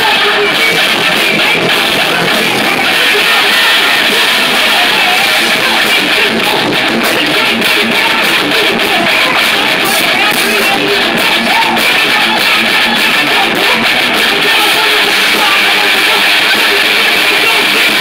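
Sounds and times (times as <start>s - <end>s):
drum kit: 0.0s - 18.0s
electric guitars: 0.0s - 18.0s.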